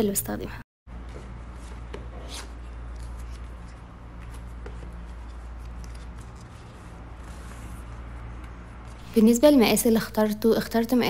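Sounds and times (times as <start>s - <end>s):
steady low hum: 0.1s - 10.9s.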